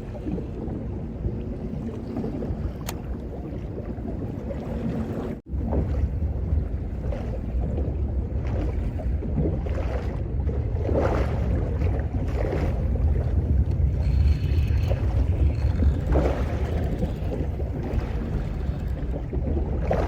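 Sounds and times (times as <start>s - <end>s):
boat engine low rumble: 0.0s - 20.0s
water noise: 0.0s - 20.0s
wind: 0.0s - 20.0s.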